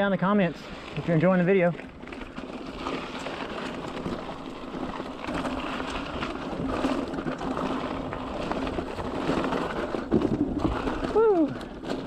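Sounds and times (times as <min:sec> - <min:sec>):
bike rattles and clicks: 0:00.0 - 0:12.0
tyre and wind noise: 0:00.0 - 0:12.0.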